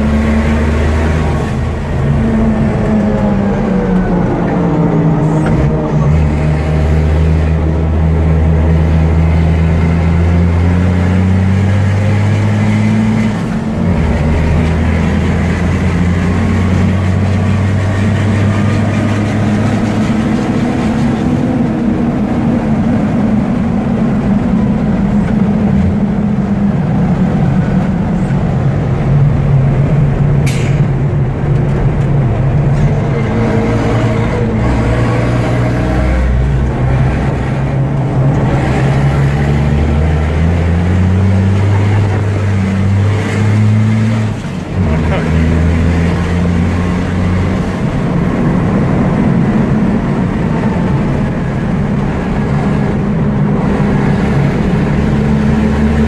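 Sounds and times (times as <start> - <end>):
diesel truck engine drone: 0.0 - 56.0.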